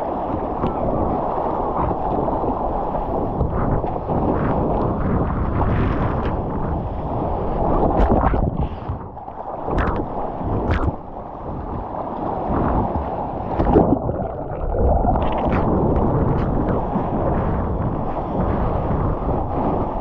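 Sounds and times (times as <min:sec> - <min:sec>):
water rushing and splashing: 0:00.0 - 0:20.0
wind buffeting microphone: 0:00.0 - 0:20.0.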